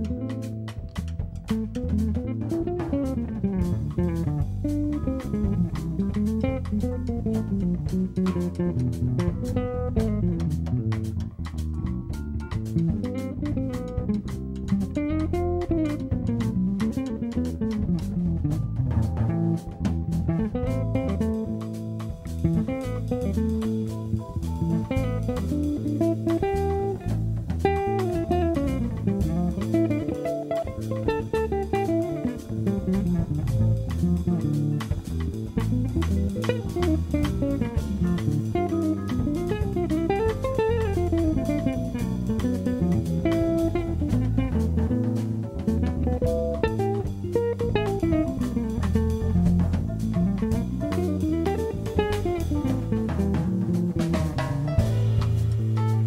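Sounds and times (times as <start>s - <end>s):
bass: 0.0s - 56.0s
drum kit: 0.0s - 56.0s
electric jazz guitar soloing: 0.0s - 56.0s.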